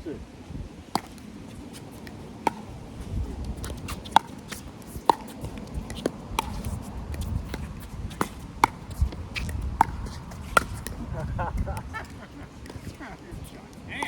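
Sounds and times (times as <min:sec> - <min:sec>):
wind rumbling on microphone: 0:00.0 - 0:14.0
paddles hitting plastic ball: 0:01.0 - 0:02.8, 0:03.4 - 0:14.0.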